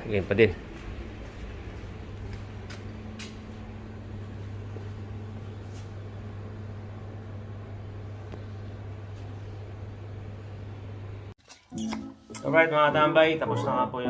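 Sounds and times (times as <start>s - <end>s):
kitchen machinery humming: 0.0s - 13.2s.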